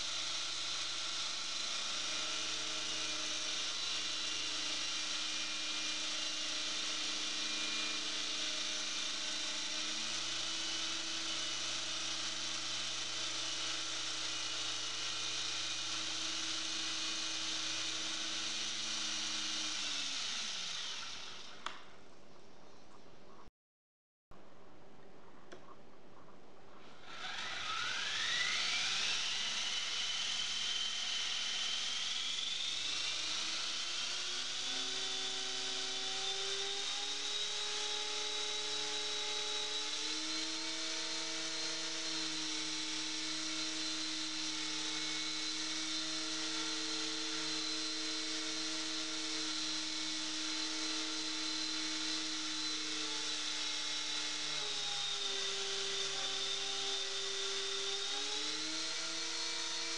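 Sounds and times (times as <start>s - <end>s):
electric helicopter motor whine: 0.0s - 21.6s, 26.8s - 59.9s.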